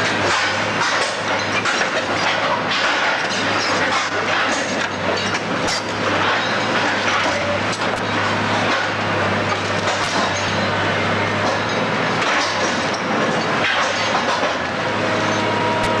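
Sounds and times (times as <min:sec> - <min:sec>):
rubble crunching and clattering: 0:00.0 - 0:14.8
heavy diesel engine running: 0:00.0 - 0:16.0.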